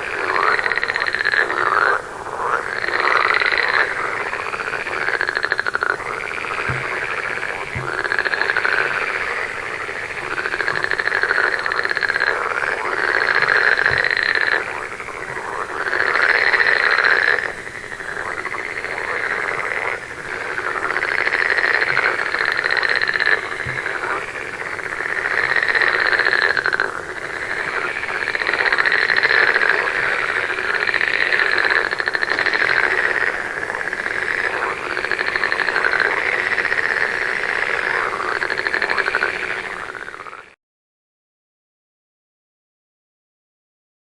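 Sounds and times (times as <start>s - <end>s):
chorus of frogs croaking: 0.0s - 40.6s.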